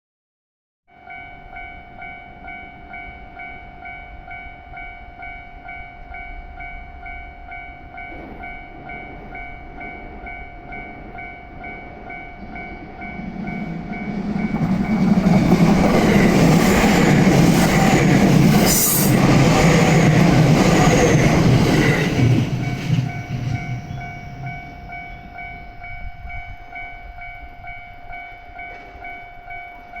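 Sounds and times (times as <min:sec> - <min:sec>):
electric train rumbling: 0:01.0 - 0:30.0.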